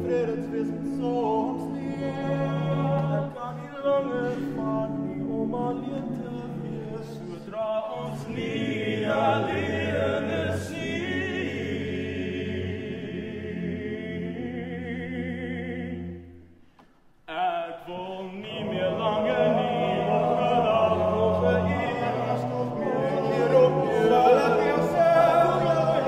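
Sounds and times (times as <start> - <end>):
male choir singing harmony: 0.0 - 16.5, 17.3 - 26.0.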